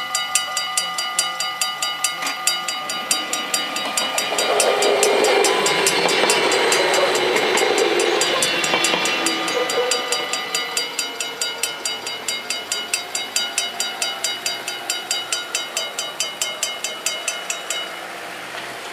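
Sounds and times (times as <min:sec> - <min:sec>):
level crossing bells ringing: 0:00.0 - 0:18.7
diesel train rumble: 0:01.6 - 0:18.9.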